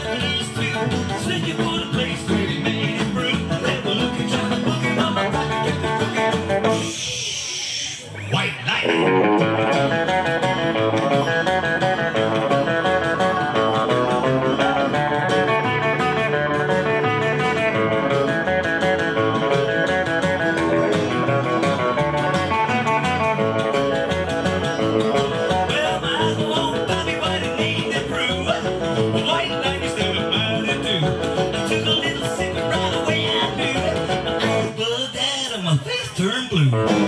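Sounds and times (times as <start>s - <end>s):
live rockabilly band instrumental: 0.0s - 37.0s.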